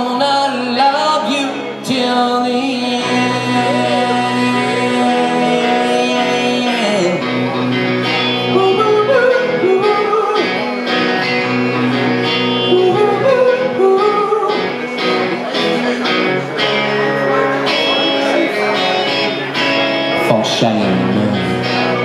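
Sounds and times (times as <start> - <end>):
live band music with lead guitar: 0.0 - 22.0.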